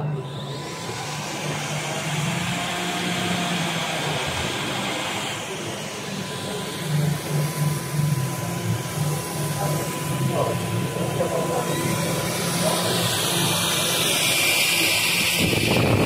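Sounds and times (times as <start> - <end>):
stick vacuum running on hard floor: 0.0 - 16.0.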